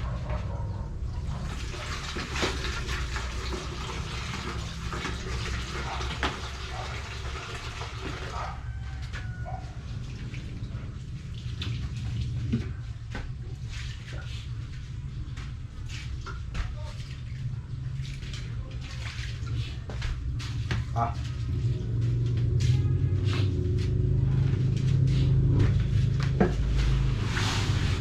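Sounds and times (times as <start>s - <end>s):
wet concrete sloshing and pouring: 0.9s - 22.2s, 24.9s - 28.0s.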